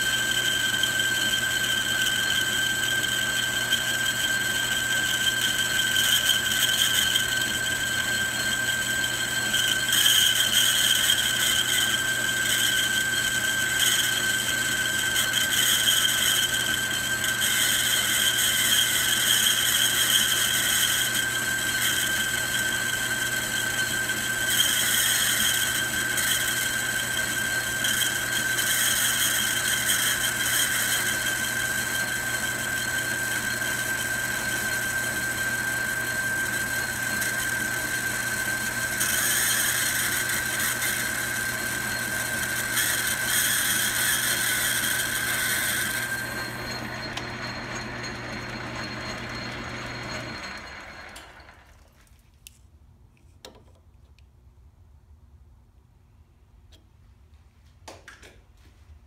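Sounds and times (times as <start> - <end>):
lathe squealing: 0.0 - 51.7.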